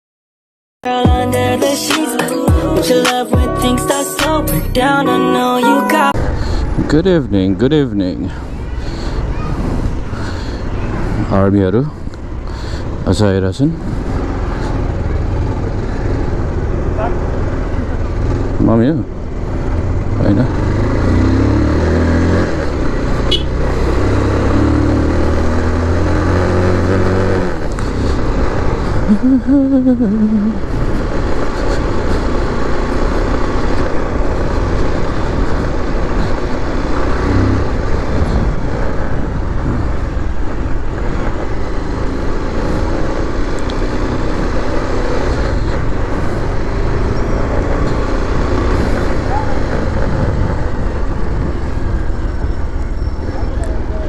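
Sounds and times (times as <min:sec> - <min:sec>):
vehicle engine running: 0:01.0 - 0:54.0
road and wind noise: 0:01.1 - 0:54.0.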